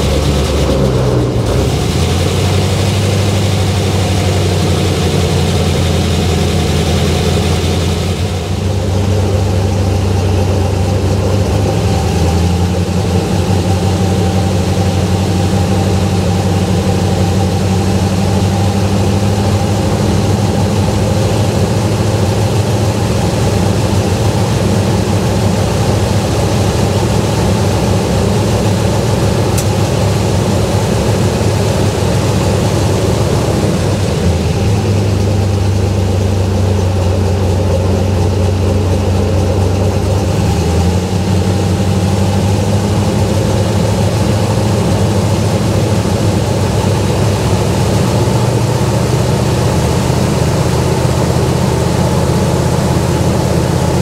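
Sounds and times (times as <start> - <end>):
airboat engine idling: 0.0 - 54.0.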